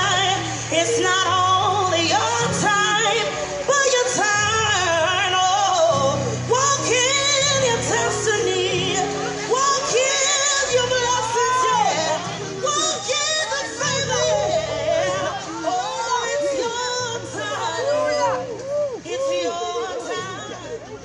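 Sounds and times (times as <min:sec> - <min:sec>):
woman singing gospel song: 0:00.0 - 0:21.0.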